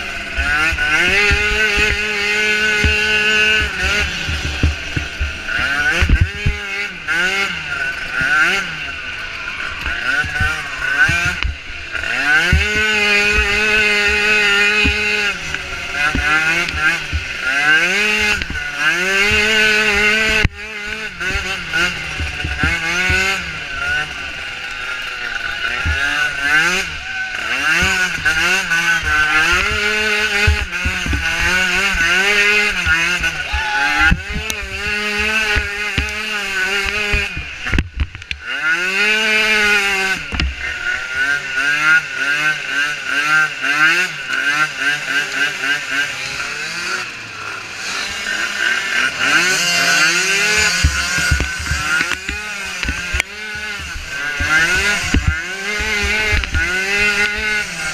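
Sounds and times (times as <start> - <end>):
small engine revving: 0.0 - 57.9.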